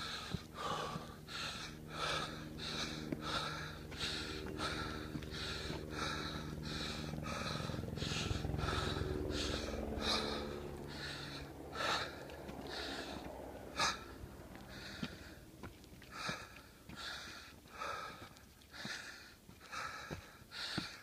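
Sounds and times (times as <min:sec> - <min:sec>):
person breathing hard: 0:00.0 - 0:21.0.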